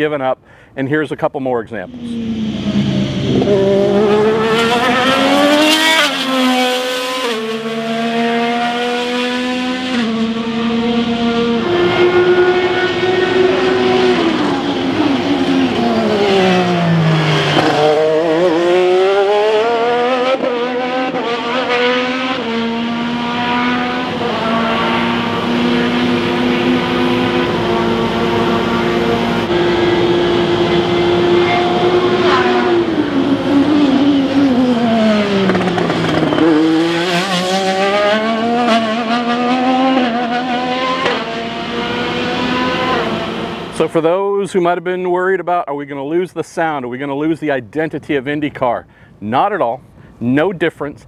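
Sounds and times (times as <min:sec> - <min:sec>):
race car engine at speed: 0:01.9 - 0:44.1.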